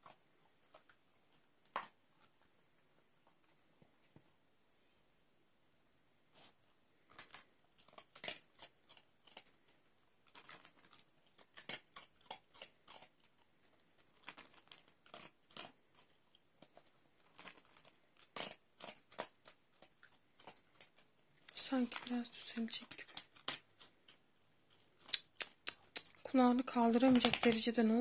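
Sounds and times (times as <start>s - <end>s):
dog crunching dry kibble: 0.0s - 2.6s, 6.3s - 28.0s.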